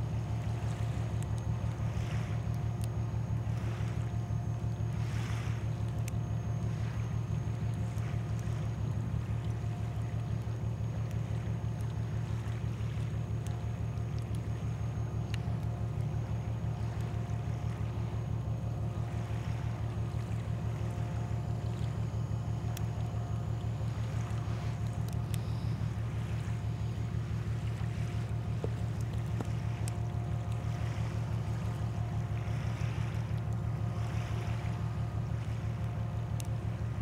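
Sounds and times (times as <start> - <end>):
boat diesel engine humming: 0.0 - 37.0.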